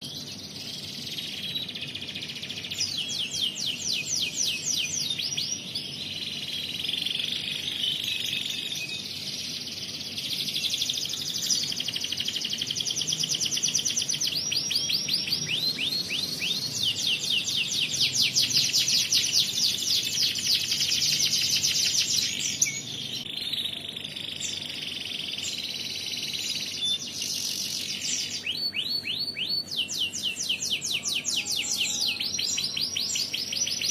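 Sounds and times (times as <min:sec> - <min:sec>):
canary singing fast trills: 0:00.0 - 0:33.9.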